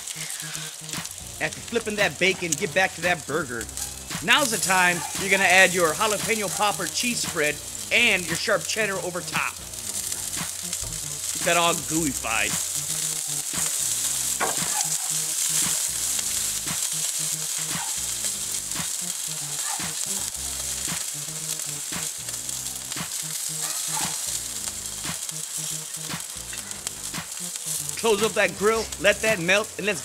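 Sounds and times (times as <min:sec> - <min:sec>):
food sizzling on a grill: 0:00.0 - 0:30.0.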